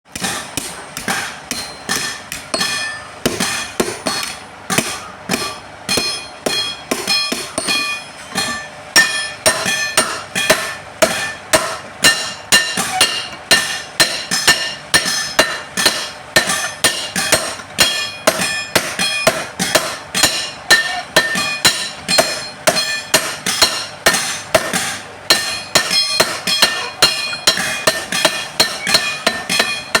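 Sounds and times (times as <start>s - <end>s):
hammer striking steel on anvil: 0.1s - 30.0s.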